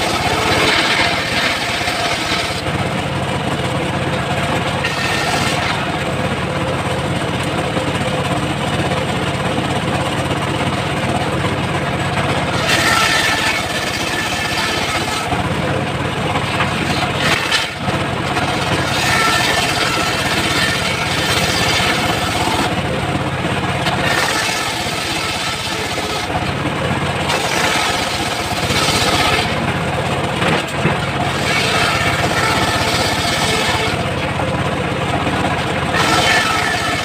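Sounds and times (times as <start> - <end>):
circular saw cutting wood: 0.0 - 9.0, 10.7 - 37.0
engine hum: 0.0 - 37.0.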